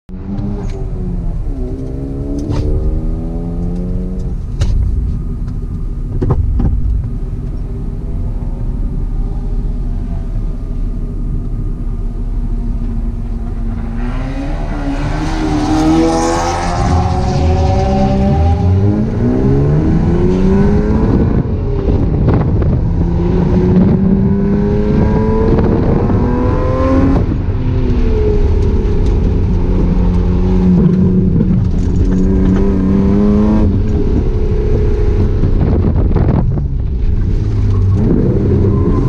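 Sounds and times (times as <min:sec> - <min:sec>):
car engine revving: 0:00.1 - 0:39.0
road and wind noise: 0:00.1 - 0:39.0.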